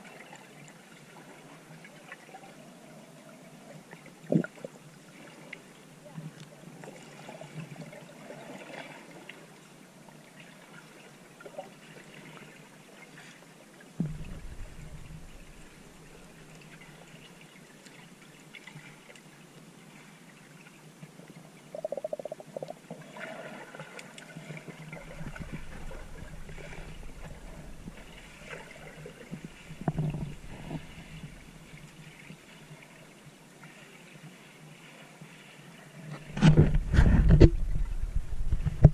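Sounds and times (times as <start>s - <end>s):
faint underwater water noise: 0.0s - 38.9s.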